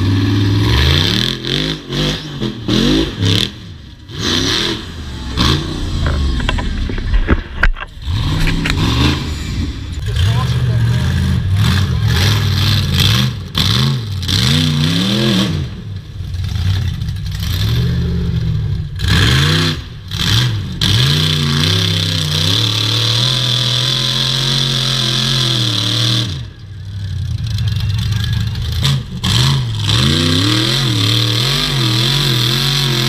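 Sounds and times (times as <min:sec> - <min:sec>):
buggy engine revving hard: 0:00.0 - 0:33.0.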